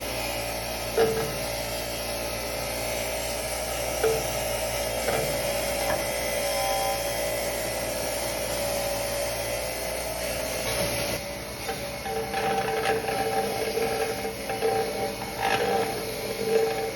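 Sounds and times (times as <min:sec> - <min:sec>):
power sander on metal: 0:00.0 - 0:16.9.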